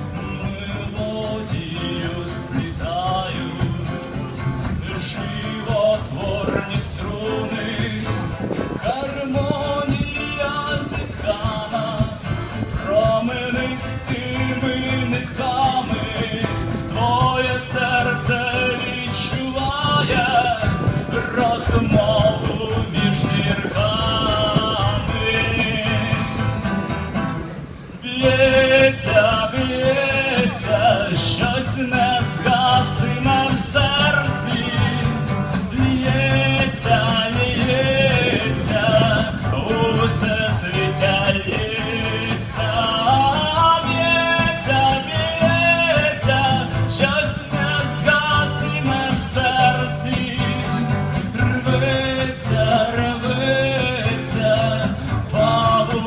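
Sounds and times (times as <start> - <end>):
man singing: 0.0 - 27.0, 28.0 - 56.0
acoustic guitar strumming: 0.0 - 56.0.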